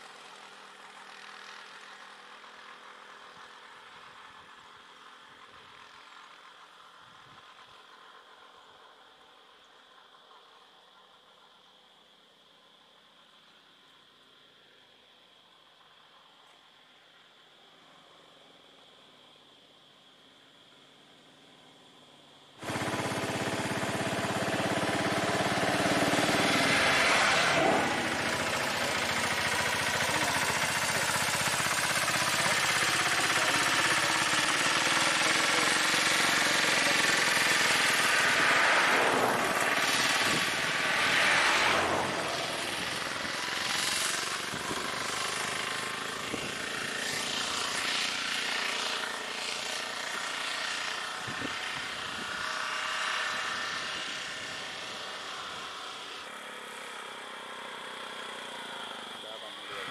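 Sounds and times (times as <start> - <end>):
vehicle engines rattling drone: 0.0 - 14.6, 20.1 - 59.9.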